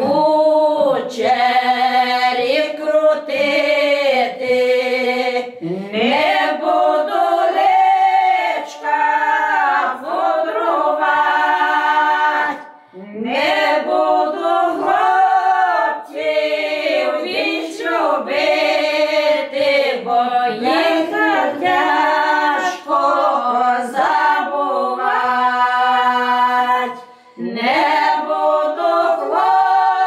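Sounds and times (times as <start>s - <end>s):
women singing in harmony: 0.0s - 30.0s.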